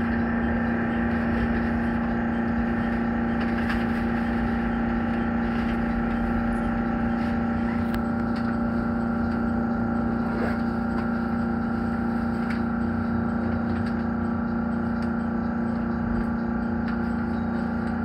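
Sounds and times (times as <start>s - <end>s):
electric train hum: 0.0s - 18.0s.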